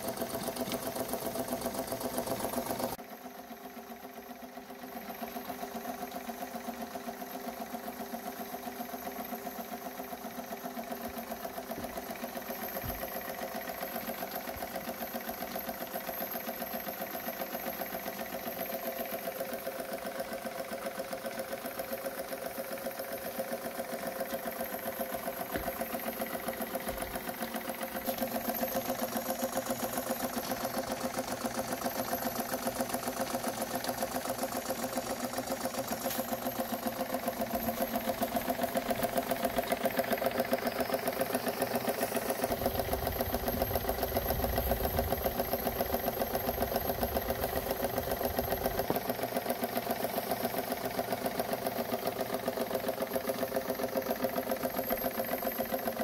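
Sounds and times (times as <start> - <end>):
toy steam engine clattering: 10.7 - 56.0.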